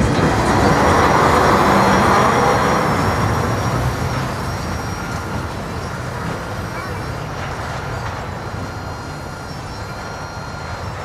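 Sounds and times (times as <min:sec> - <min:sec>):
freight train rumbling and rattling: 0:00.0 - 0:11.0.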